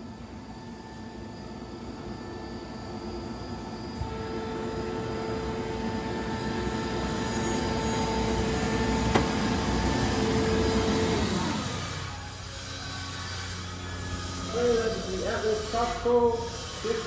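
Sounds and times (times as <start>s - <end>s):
air compressor whining: 0.0s - 17.0s.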